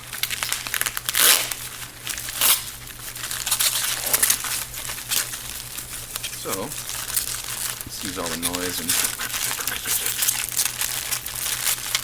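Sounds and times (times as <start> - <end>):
plastic wrapping crinkling and tearing: 0.0 - 12.0
steady low hum: 0.0 - 12.0.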